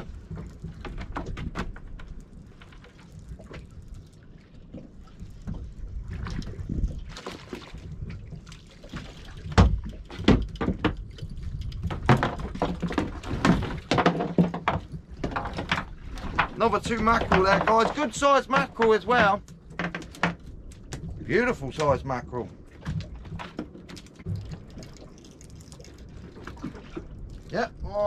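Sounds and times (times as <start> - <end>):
water sloshing around boat: 0.0 - 28.0.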